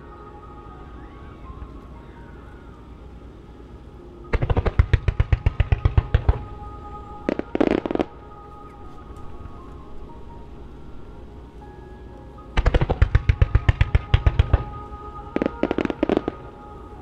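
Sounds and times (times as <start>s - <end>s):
music: 0.0s - 17.0s
fireworks crackling: 0.1s - 17.0s.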